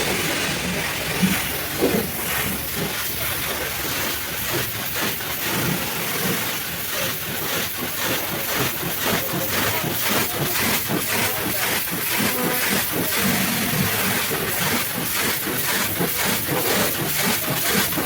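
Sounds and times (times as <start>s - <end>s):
pressure washer spraying: 0.0s - 18.0s.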